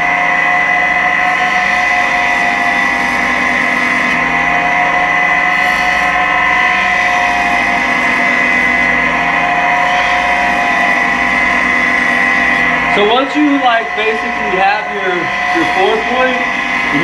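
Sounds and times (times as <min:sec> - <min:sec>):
electric sander whining: 0:00.0 - 0:17.0.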